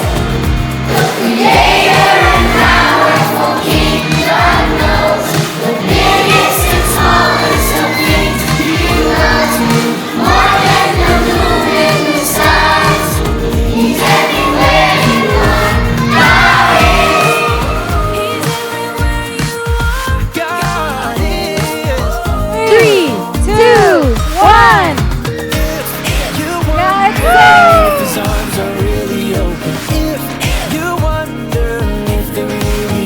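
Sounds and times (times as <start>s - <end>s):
backing track with bass beat: 0.0s - 33.0s
group singing: 0.0s - 33.0s.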